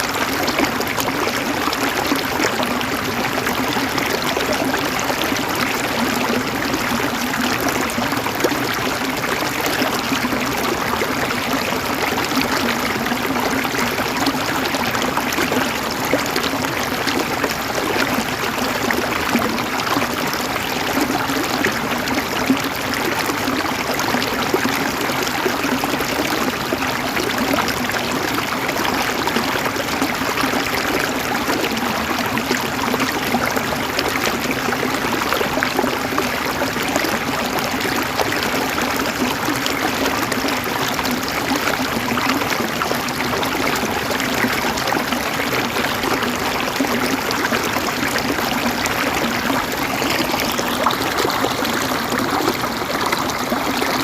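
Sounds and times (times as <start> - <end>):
river babbling over rocks: 0.0 - 54.0.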